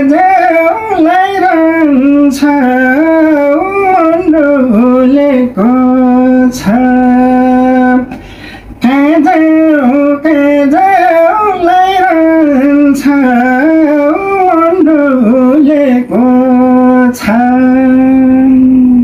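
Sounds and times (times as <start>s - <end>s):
man singing folk song: 0.0s - 8.2s, 8.8s - 19.0s.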